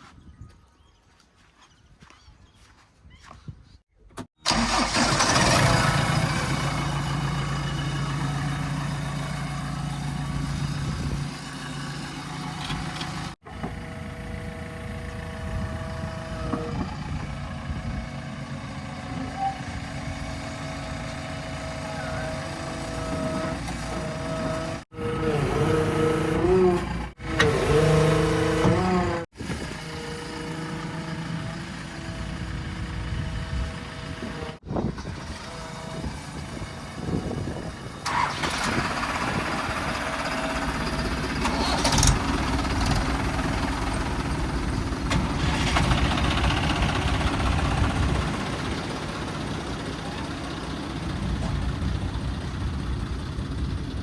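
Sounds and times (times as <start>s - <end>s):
diesel machinery revving: 4.4s - 54.0s.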